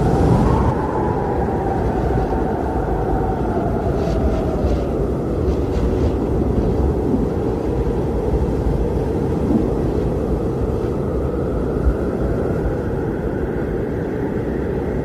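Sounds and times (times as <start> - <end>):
strong blizzard wind: 0.0 - 15.0.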